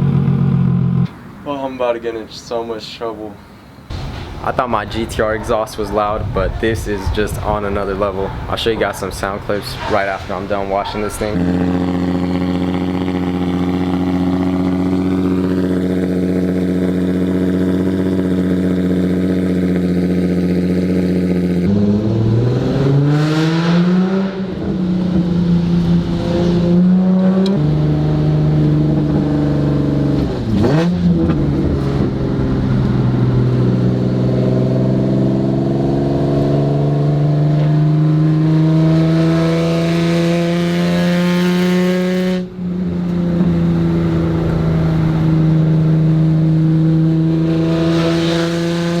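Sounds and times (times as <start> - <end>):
car engine accelerating: 0.0 - 1.4, 3.9 - 49.0.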